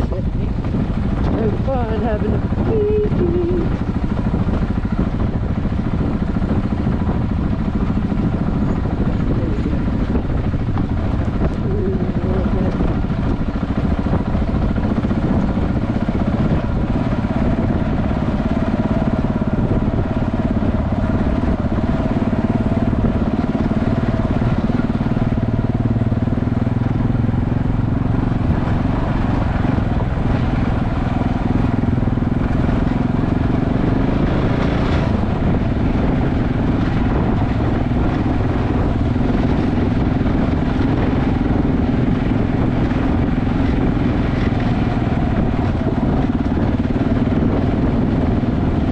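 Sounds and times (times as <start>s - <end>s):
heavy low rumbling noise: 0.0s - 48.9s
motorcycle engine running: 0.0s - 48.9s.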